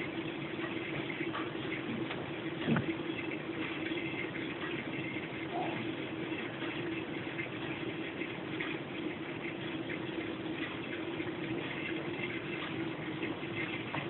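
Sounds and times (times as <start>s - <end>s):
aquarium filter hum: 0.0s - 14.0s.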